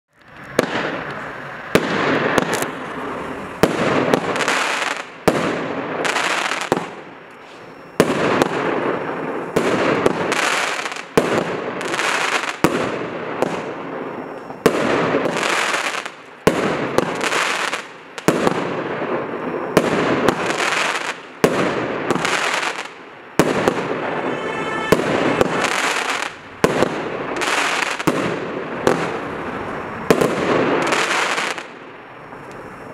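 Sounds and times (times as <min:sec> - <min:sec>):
crackling fireworks burst: 0:00.1 - 0:32.9
fireworks sharp reports: 0:00.1 - 0:32.9.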